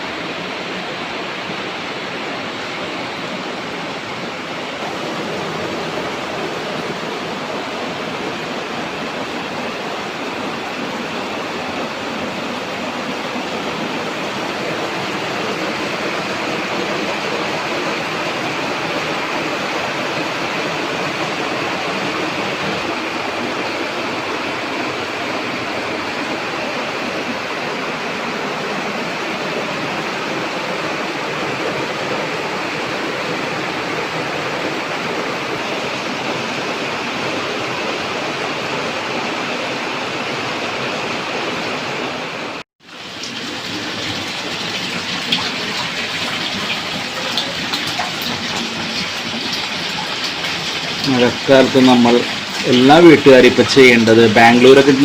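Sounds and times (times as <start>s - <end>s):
rainwater rushing: 0.0s - 55.0s.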